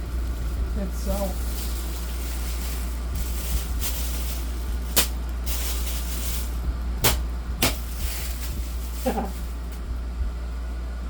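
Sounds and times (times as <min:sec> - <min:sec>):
packaging rustling: 0:00.0 - 0:09.8
steady low hum: 0:00.0 - 0:11.0.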